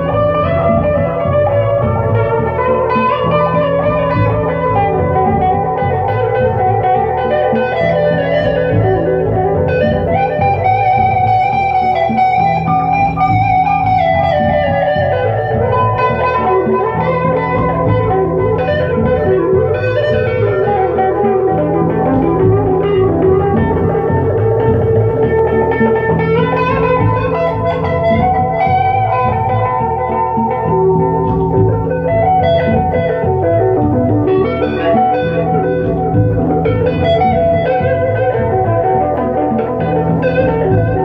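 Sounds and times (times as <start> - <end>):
electric guitar playing: 0.0 - 41.0.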